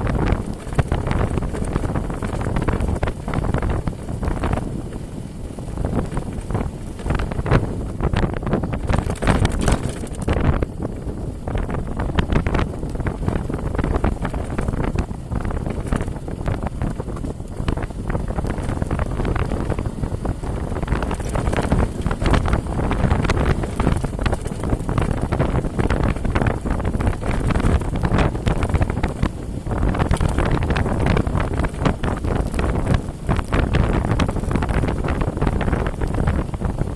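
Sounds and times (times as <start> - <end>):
vehicle knocks and rattles: 0.0 - 36.9
wind buffeting microphone: 0.0 - 36.9.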